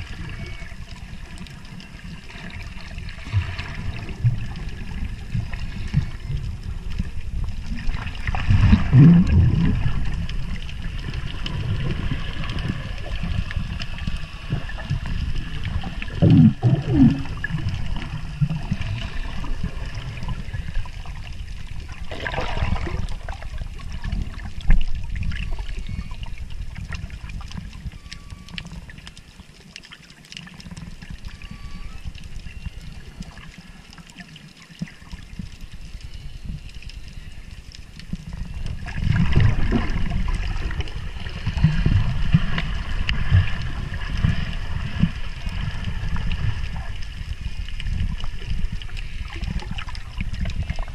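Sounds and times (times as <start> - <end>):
underwater rumbling and gurgling: 0.0 - 50.9
underwater swish: 0.0 - 50.9.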